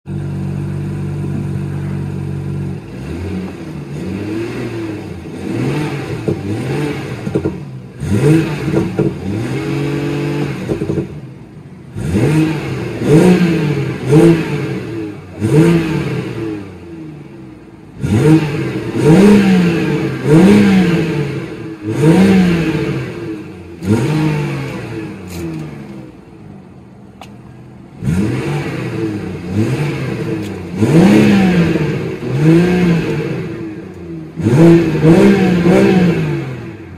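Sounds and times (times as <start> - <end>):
car engine revving: 0.1 - 36.9.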